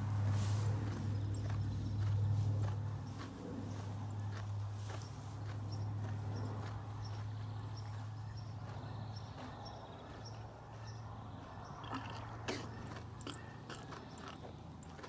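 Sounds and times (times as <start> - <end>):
camel chewing with teeth clicking: 0.0 - 10.8, 11.4 - 15.0.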